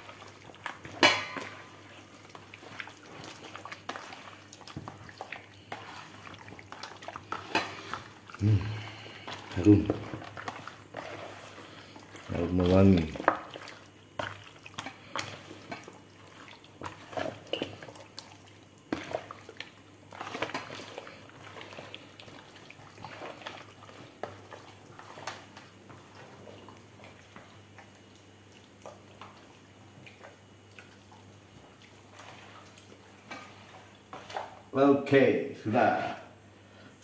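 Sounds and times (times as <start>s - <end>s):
wet squelches of kneading meat: 0.0s - 34.8s.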